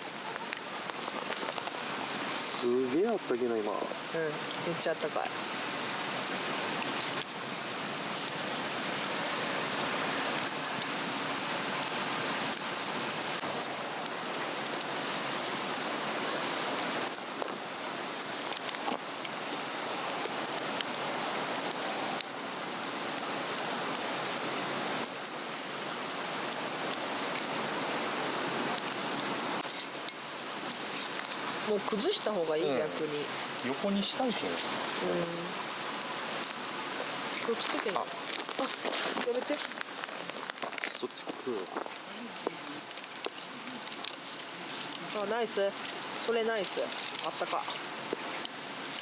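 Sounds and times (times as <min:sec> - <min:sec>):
fire crackling: 0:00.0 - 0:49.0
flame hissing: 0:00.1 - 0:49.0.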